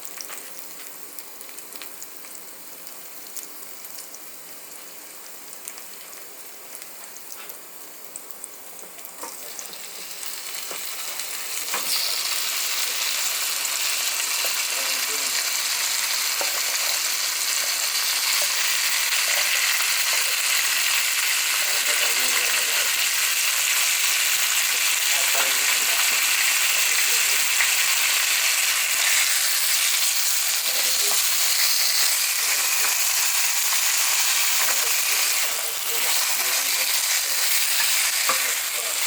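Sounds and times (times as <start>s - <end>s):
food sizzling in a hot pan: 0.0s - 39.0s.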